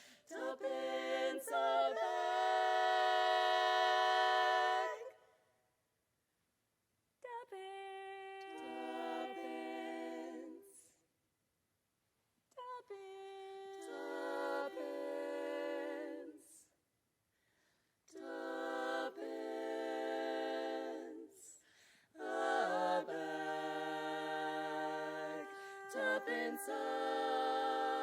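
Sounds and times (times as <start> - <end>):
women singing in close harmony: 0.0 - 5.4, 7.3 - 11.0, 12.5 - 16.8, 18.1 - 28.0.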